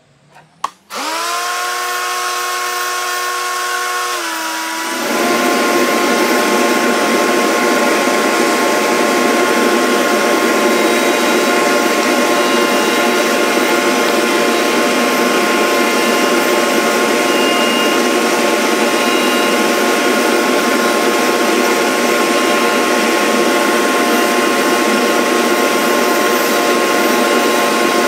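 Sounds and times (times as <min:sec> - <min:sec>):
cutter cutting wood: 0:00.4 - 0:28.0
cutter motor whine: 0:00.4 - 0:28.0.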